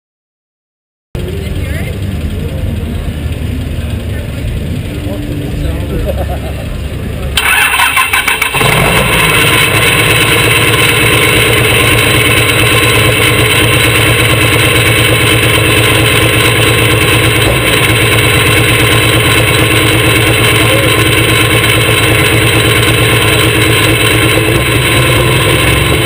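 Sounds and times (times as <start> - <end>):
diesel engine starting and idling: 1.2 - 26.0.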